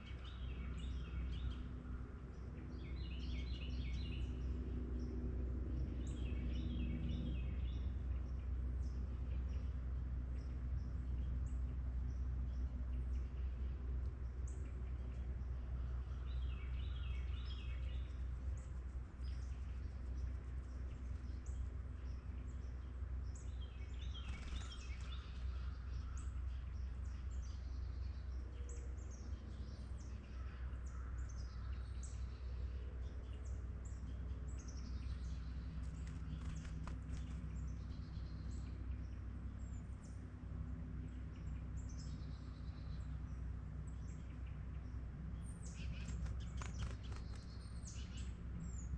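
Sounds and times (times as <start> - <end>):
small birds chirping: 0.0 - 48.9
steady low rumble: 0.0 - 48.9.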